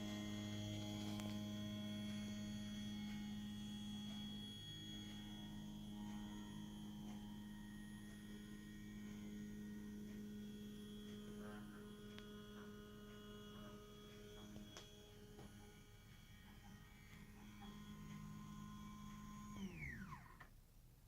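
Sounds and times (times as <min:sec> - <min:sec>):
motor whines changing pitch: 0:00.0 - 0:20.5
machine low hum: 0:00.0 - 0:21.0.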